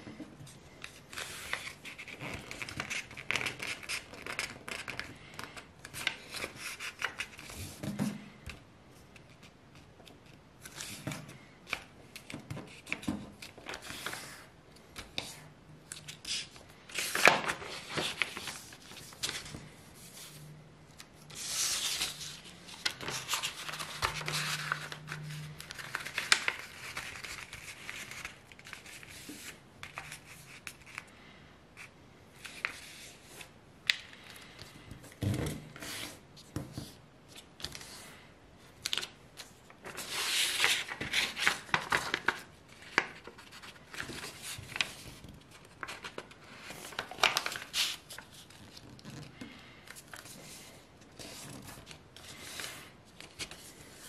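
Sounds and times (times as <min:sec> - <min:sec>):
paper rustling and crinkling: 0:00.4 - 0:08.3, 0:09.1 - 0:20.4, 0:21.0 - 0:31.1, 0:38.7 - 0:54.0.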